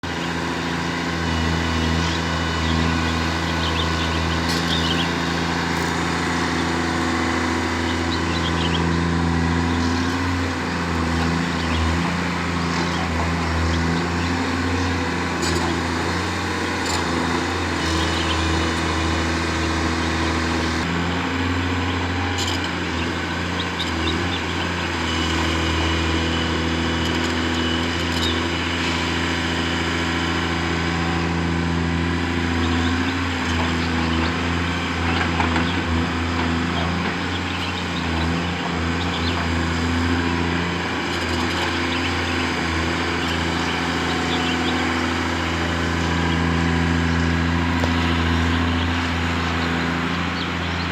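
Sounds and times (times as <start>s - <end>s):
construction vehicle engine running: 0.0s - 50.9s.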